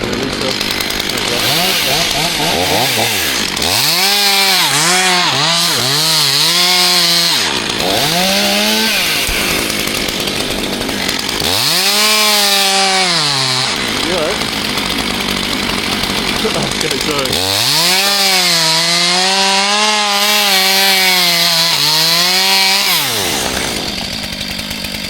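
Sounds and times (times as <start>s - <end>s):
chainsaw revving: 0.0s - 25.0s.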